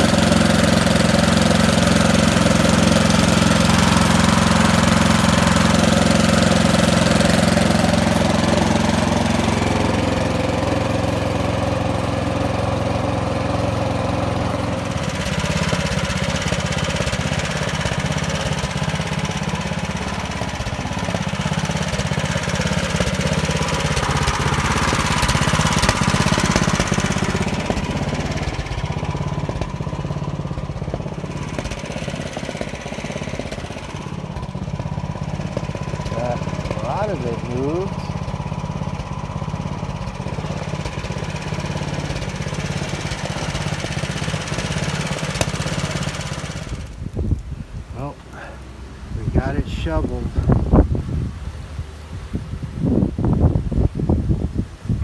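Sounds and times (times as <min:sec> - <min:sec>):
snowblower engine running: 0:00.0 - 0:55.0.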